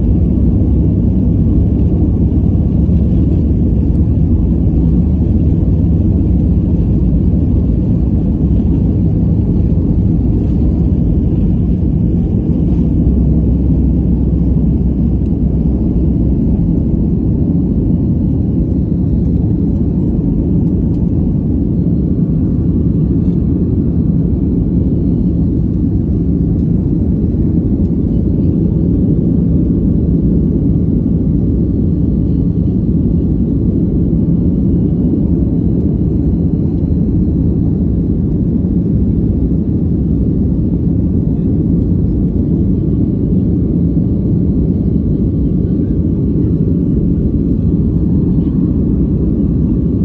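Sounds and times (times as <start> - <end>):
jet engines low rumble: 0.0 - 50.0.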